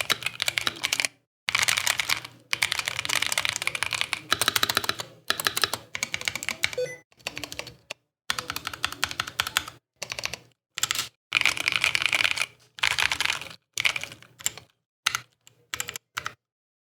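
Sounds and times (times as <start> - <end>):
mechanical keyboard typing: 0.0 - 16.4.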